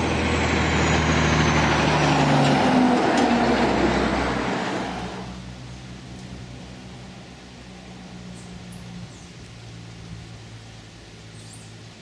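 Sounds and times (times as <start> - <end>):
vehicle driving past: 0.0 - 11.7.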